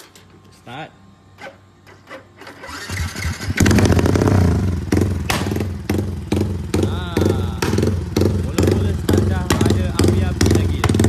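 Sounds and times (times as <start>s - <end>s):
motorcycle engine starting and running: 1.4s - 11.0s.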